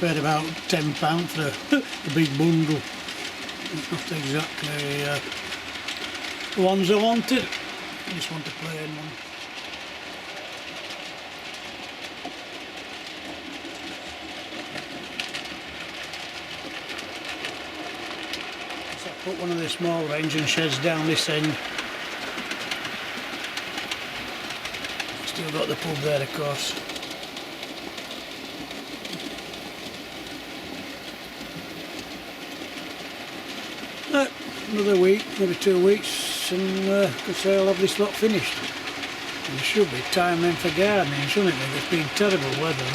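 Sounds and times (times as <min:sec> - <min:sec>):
faint clicks over rail joints: 0:00.0 - 0:42.9
model trains rolling: 0:00.0 - 0:42.9.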